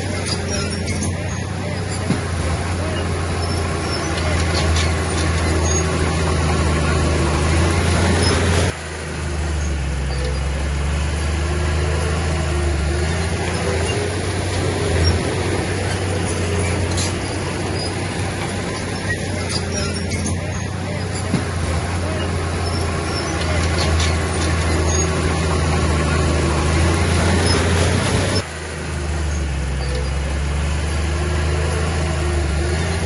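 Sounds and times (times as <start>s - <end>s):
diesel machinery engine drone: 0.0s - 33.0s.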